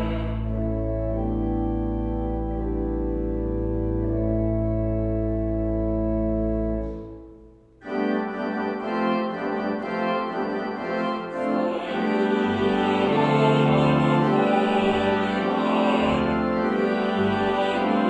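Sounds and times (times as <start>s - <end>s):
church organ playing: 0.0s - 18.0s.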